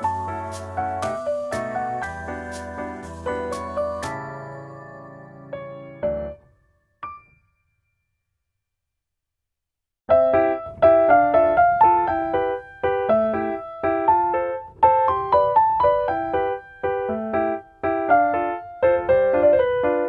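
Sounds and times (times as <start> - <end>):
piano music: 0.0 - 7.8, 10.1 - 20.0.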